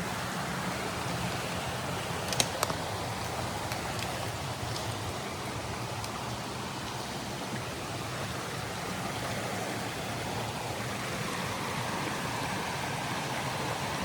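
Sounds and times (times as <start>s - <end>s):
flowing creek water: 0.0s - 14.0s.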